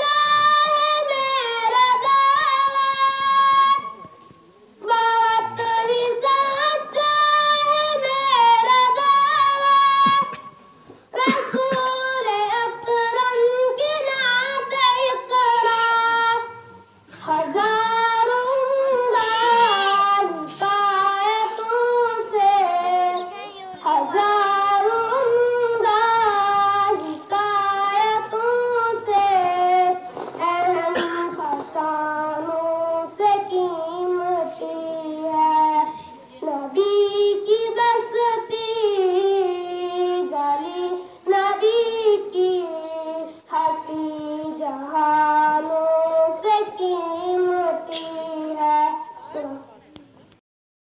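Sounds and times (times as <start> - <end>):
boy singing unaccompanied: 0.0 - 4.1, 4.8 - 50.0.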